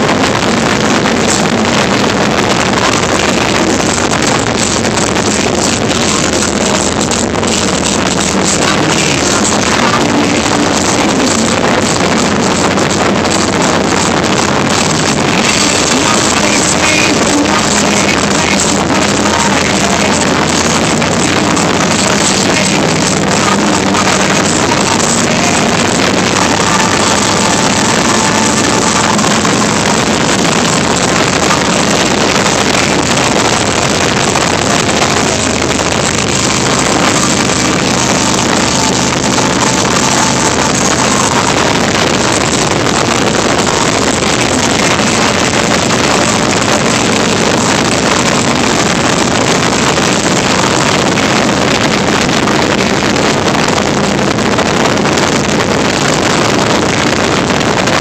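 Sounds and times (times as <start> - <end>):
motorcycle engine running: 0.0 - 58.0
wind rush on microphone: 0.0 - 58.0.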